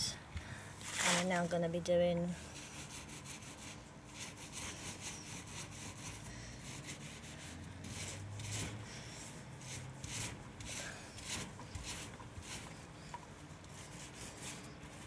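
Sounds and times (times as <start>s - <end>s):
paint roller rasping strokes: 2.5s - 15.0s.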